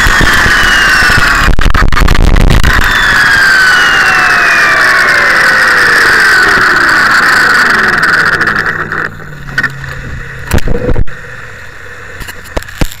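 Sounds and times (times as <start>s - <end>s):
rc helicopter rotor whining: 0.0s - 13.0s.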